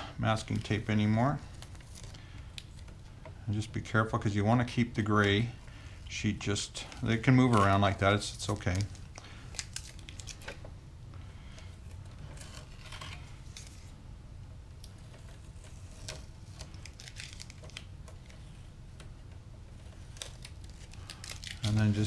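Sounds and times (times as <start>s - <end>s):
low steady hum: 0.0s - 22.0s
tape peeling rustles: 0.2s - 10.8s, 11.5s - 14.0s, 14.7s - 22.0s.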